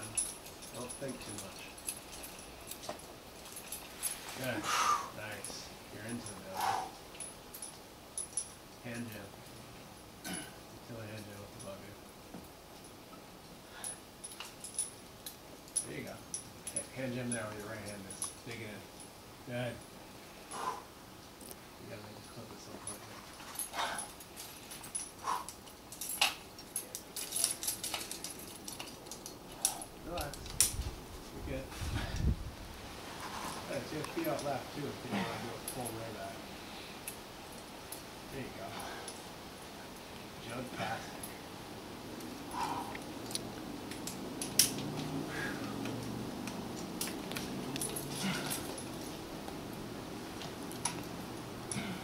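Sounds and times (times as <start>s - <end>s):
climbing gear clinking: 0.0s - 52.0s.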